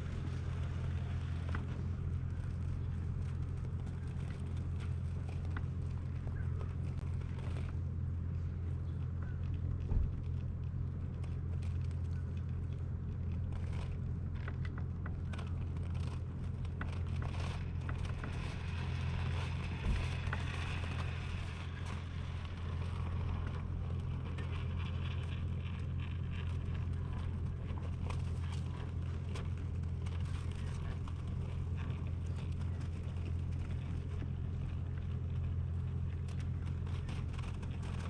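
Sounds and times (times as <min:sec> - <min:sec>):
crackles and scrapes: 0:00.0 - 0:38.0
monster truck engine rumble: 0:00.0 - 0:38.0.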